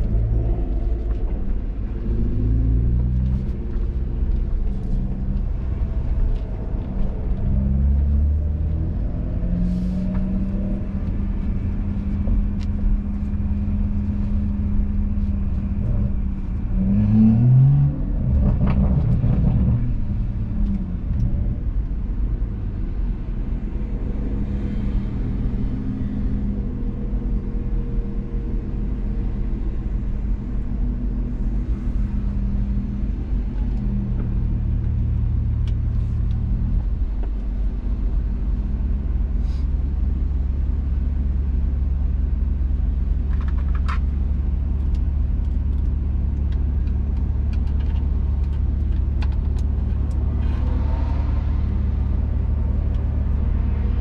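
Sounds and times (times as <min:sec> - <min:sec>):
car engine under load: 0:00.0 - 0:54.0
heavy low rumble: 0:00.0 - 0:54.0.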